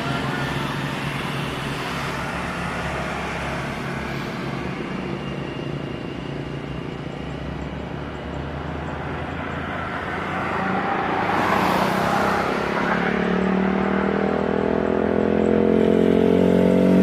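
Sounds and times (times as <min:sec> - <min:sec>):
outdoor engine noise: 0:00.0 - 0:17.0.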